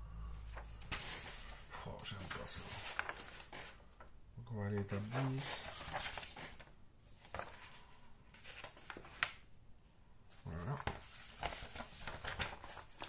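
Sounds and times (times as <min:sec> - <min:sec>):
paper pages rustling: 0:00.5 - 0:04.0, 0:04.7 - 0:09.5, 0:10.3 - 0:13.0.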